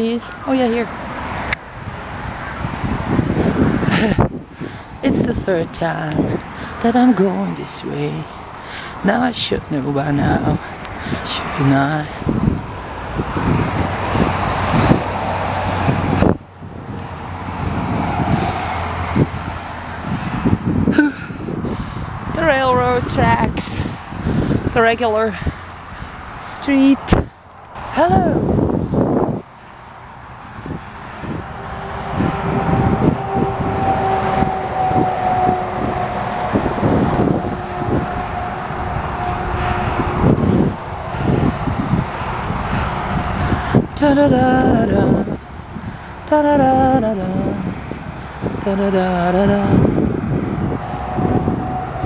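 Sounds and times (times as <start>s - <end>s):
wind: 0.0s - 52.0s
bicycle rolling on asphalt: 0.2s - 6.8s, 7.6s - 26.4s, 28.5s - 44.0s, 49.9s - 52.0s.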